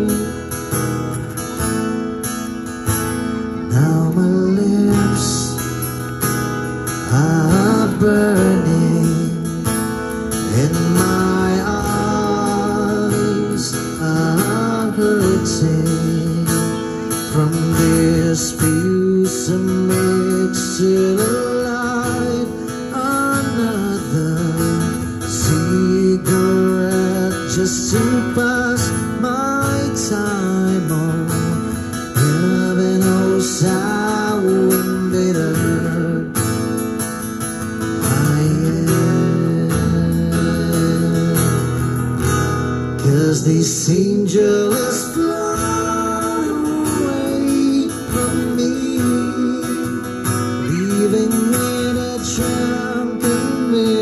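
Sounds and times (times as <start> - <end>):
man singing into a microphone: 0.0 - 1.4, 3.6 - 54.0
acoustic guitar strumming: 0.0 - 54.0.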